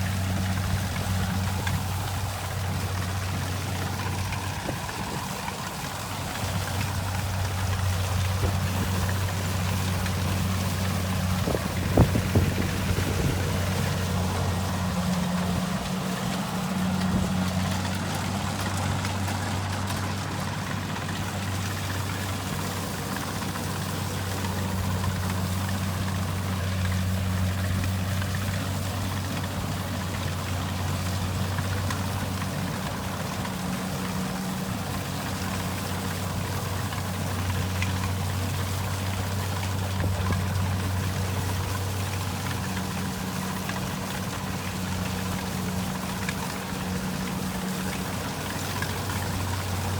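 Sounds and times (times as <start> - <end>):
harvester diesel engine running: 0.0 - 49.9.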